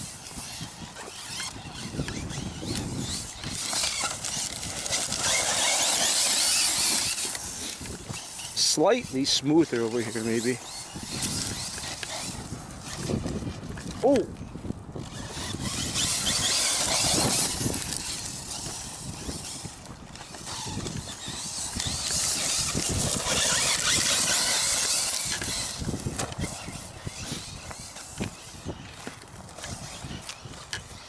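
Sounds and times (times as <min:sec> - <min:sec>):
tyres churning through gravel: 0:00.0 - 0:31.0.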